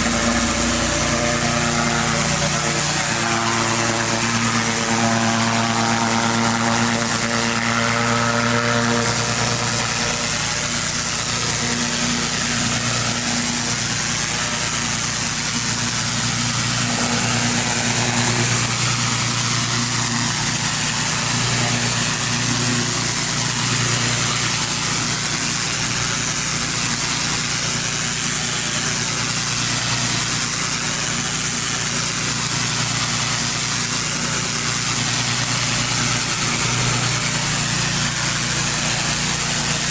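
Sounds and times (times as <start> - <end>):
high-pressure water spray hiss: 0.0 - 39.9
petrol engine running: 0.0 - 39.9.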